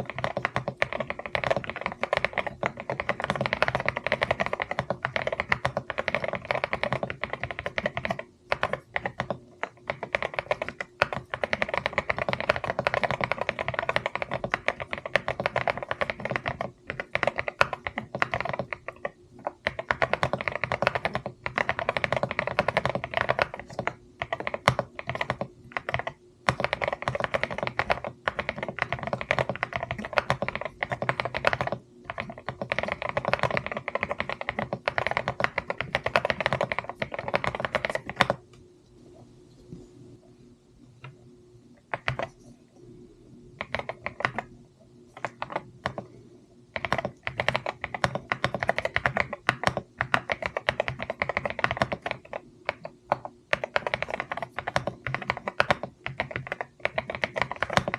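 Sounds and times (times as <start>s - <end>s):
typing on mechanical keyboard: 0.0s - 38.4s, 41.9s - 42.4s, 43.6s - 44.5s, 45.1s - 57.9s.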